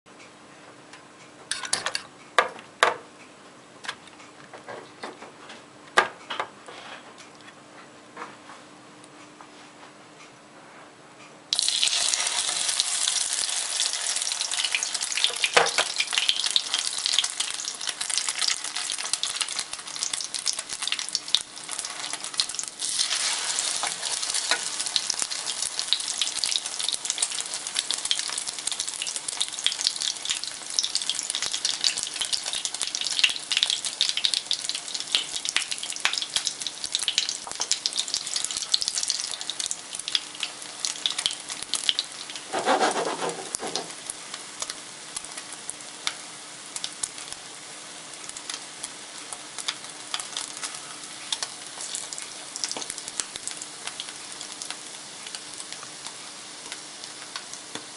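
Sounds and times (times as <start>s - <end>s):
bread sizzling in hot oil: 11.5s - 57.9s.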